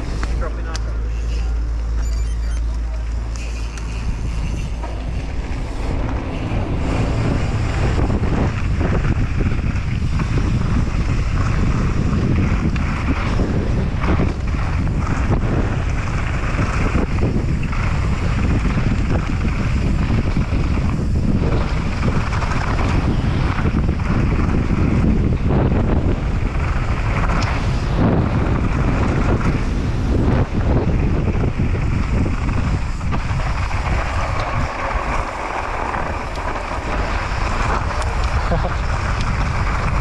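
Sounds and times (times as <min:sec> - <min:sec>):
wind rushing over microphone: 0:00.0 - 0:40.0
bike rattling over bumps: 0:02.8 - 0:40.0.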